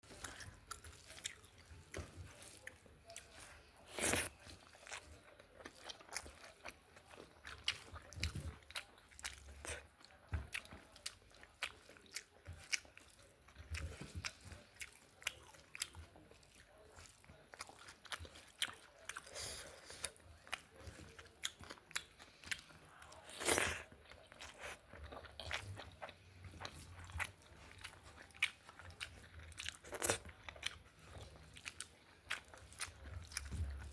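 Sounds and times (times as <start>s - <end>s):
person chewing: 0.0s - 33.9s.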